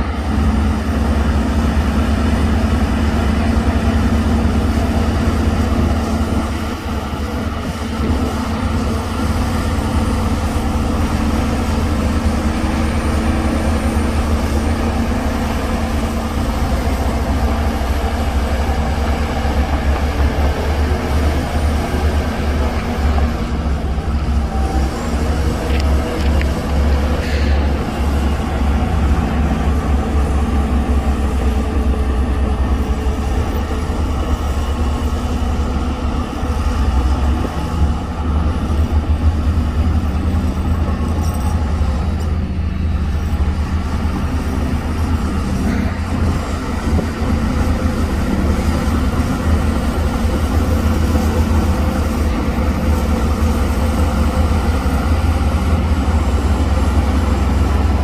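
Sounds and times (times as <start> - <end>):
diesel earthmover engine rumbling: 0.0 - 58.0.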